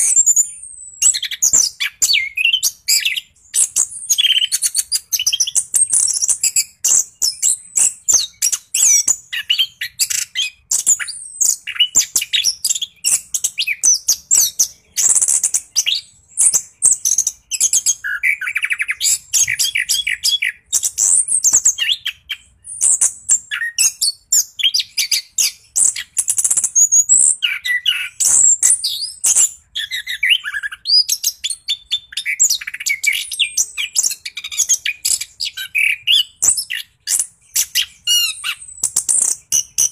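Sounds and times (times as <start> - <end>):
bird song of chirps and trills: 0.0 - 39.9.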